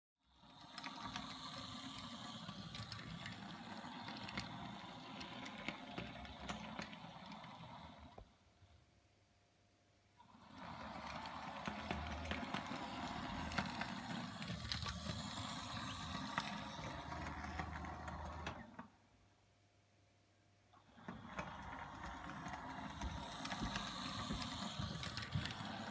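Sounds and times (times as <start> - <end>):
model train motor hum: 0.3 - 8.4, 10.3 - 18.8, 20.8 - 25.9
wheels clicking on rails: 0.4 - 8.2, 10.4 - 18.9, 20.9 - 25.9.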